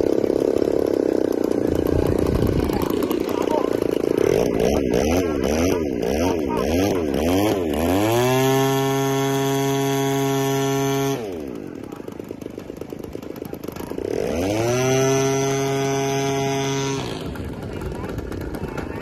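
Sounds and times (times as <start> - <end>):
model airplane engine revving: 0.0 - 19.0.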